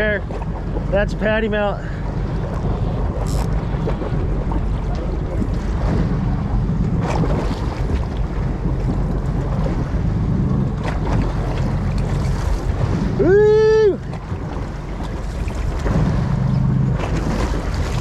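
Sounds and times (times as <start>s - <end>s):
low engine hum: 0.0s - 18.0s
water washing against hull: 0.0s - 18.0s
wind buffeting microphone: 0.0s - 18.0s.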